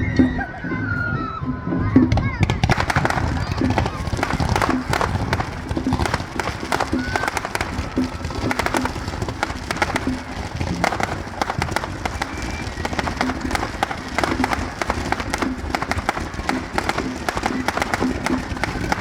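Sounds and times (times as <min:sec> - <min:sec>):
fireworks crackling and popping: 0:02.1 - 0:19.0.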